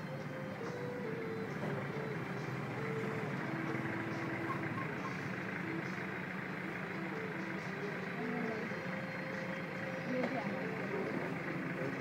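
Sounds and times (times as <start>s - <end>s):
passing traffic hum: 0.0s - 12.0s.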